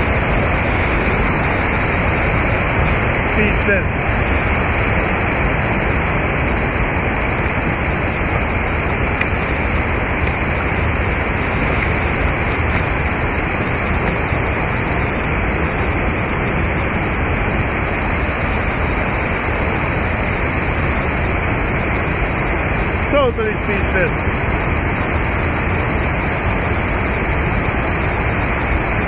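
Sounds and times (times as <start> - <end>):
rush of flowing water: 0.0 - 29.0.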